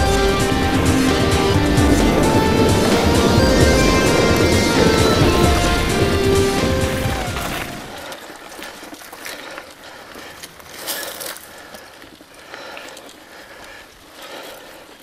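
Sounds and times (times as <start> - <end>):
bike clicking and rattling: 0.0 - 15.0
tyres hissing on dirt: 0.0 - 15.0.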